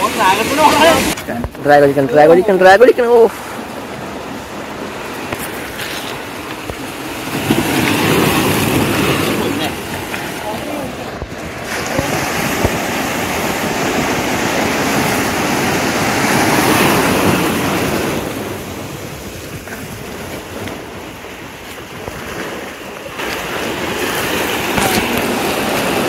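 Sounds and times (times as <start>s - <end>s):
surf breaking on rocks: 0.0s - 26.0s
wind on microphone: 0.0s - 26.0s.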